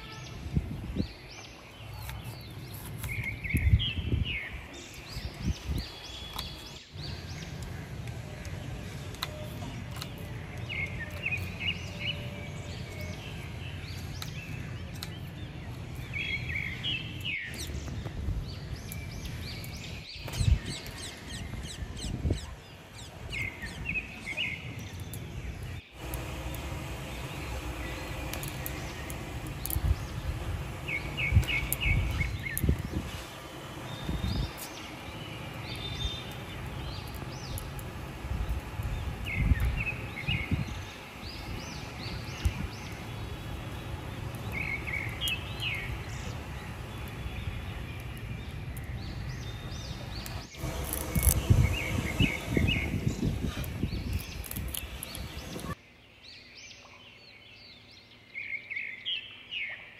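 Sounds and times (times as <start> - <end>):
bird chirping: 0.0 - 59.9
outdoor background noise: 0.0 - 59.9.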